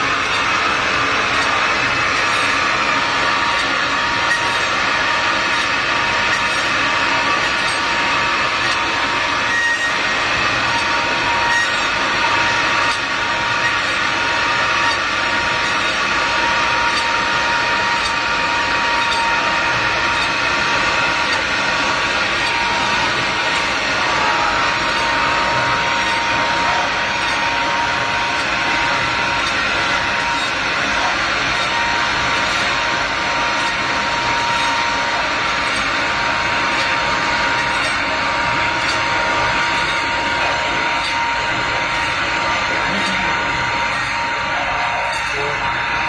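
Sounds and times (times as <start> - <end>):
machine mechanical whir: 0.0 - 46.0.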